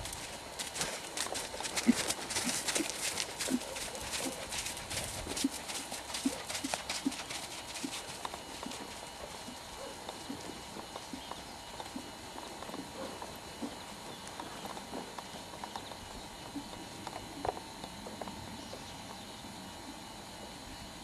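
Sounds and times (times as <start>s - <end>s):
horse hoofbeats on arena surface: 0.0s - 19.2s.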